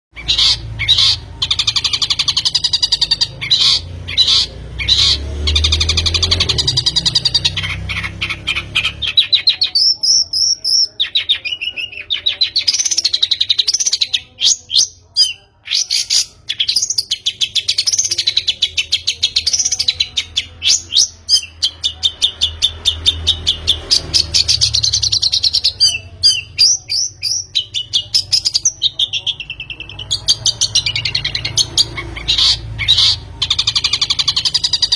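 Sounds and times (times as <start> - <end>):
bird chattering song: 0.1 - 34.9.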